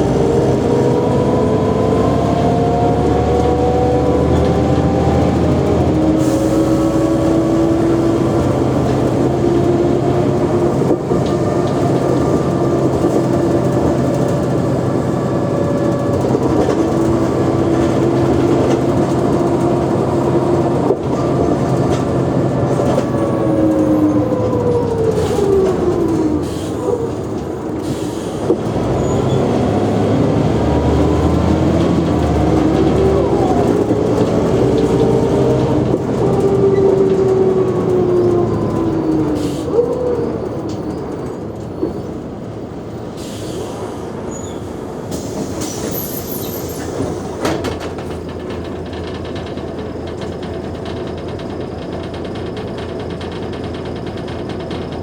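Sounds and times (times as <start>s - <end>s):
bus drivetrain whine: 0.0s - 55.0s.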